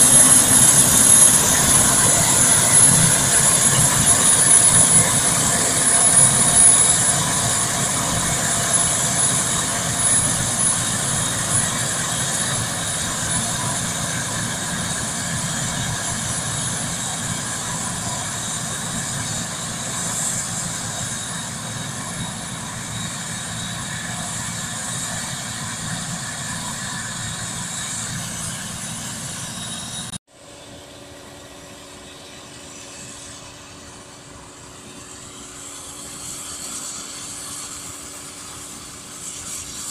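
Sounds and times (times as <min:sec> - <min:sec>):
combine harvester mechanical drone: 0:00.0 - 0:39.9
high mechanical whine: 0:00.0 - 0:39.9.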